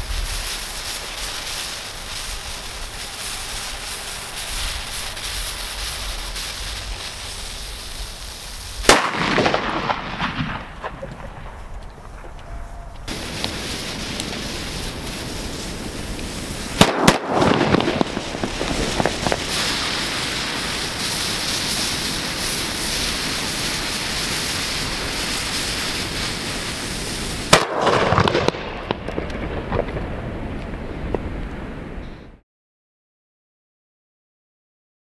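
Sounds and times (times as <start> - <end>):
firework hissing: 0.0 - 12.4, 13.0 - 29.2
firework bangs: 0.0 - 31.3
firework crackling: 0.0 - 31.3.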